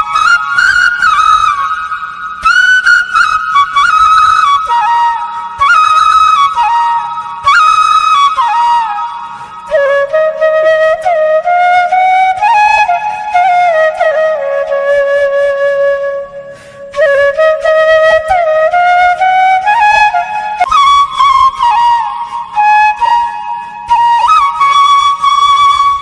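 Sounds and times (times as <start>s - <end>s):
solo flute playing slow melody: 0.0s - 26.0s.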